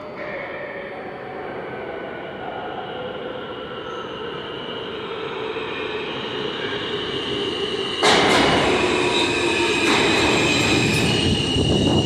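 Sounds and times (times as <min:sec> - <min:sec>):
high-pitched train squeal: 0:00.0 - 0:12.0
subway train rumbling past: 0:00.0 - 0:12.0.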